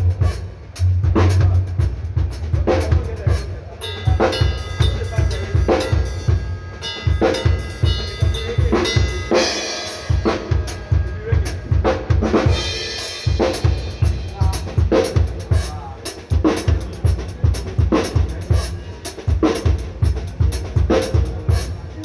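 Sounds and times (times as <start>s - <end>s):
cymbals washing: 0.0s - 22.0s.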